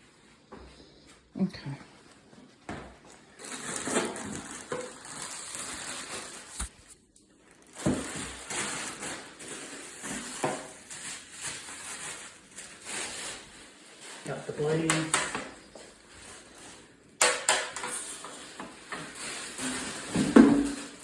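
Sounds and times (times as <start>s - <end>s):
packaging rustling and crinkling: 3.1s - 17.1s, 17.7s - 21.0s.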